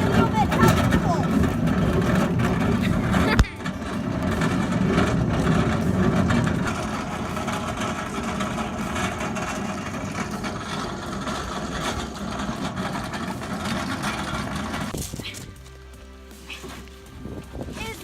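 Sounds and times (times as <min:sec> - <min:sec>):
boat hull scraping on ground: 0:00.0 - 0:18.0.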